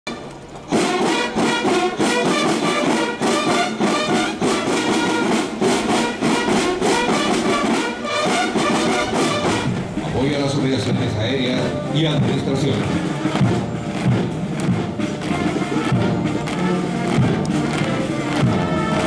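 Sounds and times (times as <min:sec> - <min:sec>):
marching band brass: 0:00.1 - 0:19.0
snare drums steady beat: 0:00.7 - 0:19.0.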